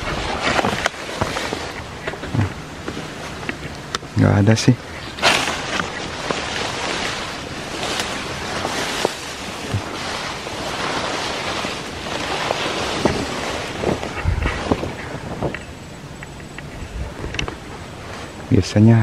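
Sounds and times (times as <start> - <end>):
leaves and grass rustling: 0.0 - 19.0.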